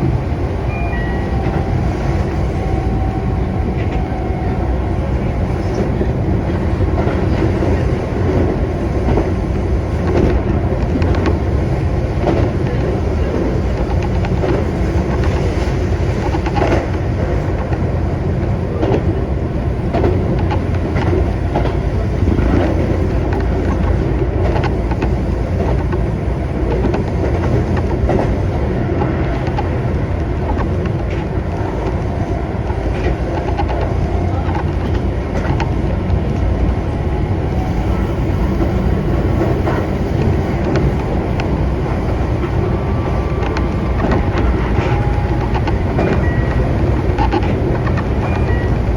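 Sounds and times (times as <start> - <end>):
track clicks and clacks: 0.0 - 48.9
train wheels rumbling on rail: 0.0 - 48.9.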